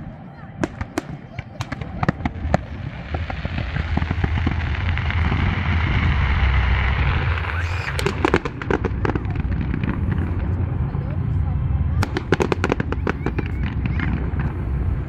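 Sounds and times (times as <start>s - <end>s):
fireworks crackling: 0.0s - 15.0s
fireworks sharp bangs: 0.0s - 15.0s
low rumble: 0.0s - 15.0s.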